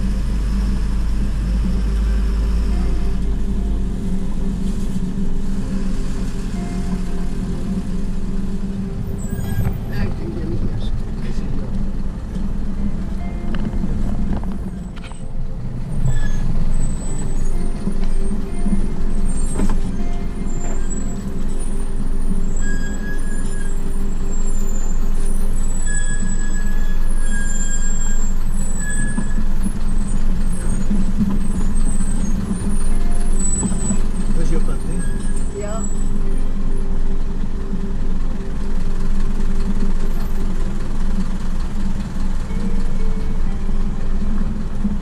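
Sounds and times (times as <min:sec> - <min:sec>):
road noise: 0:00.0 - 0:45.0
vehicle engine running: 0:00.0 - 0:45.0.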